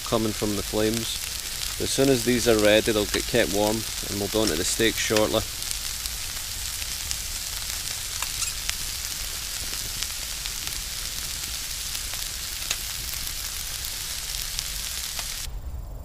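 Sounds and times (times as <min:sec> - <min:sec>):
pops and crackles: 0:00.0 - 0:15.5
vegetables sizzling in a pan: 0:00.0 - 0:15.5.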